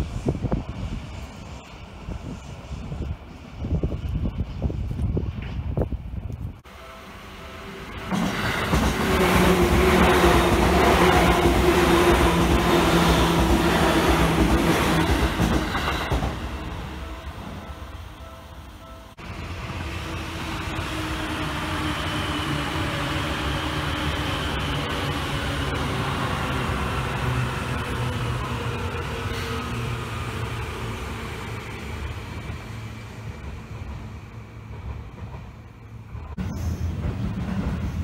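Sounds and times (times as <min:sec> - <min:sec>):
electric train rumbling past: 0:00.0 - 0:38.0.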